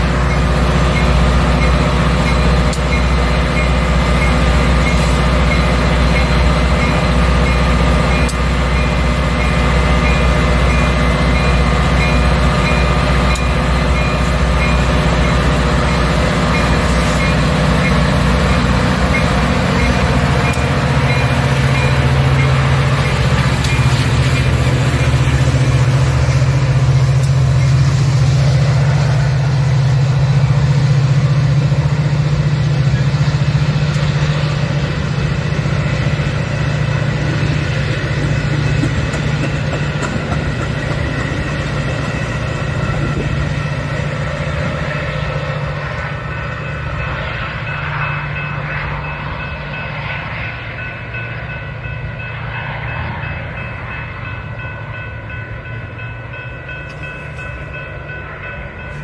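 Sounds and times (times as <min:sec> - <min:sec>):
diesel locomotive engine drone: 0:00.0 - 0:59.0
train rolling past: 0:00.0 - 0:59.0.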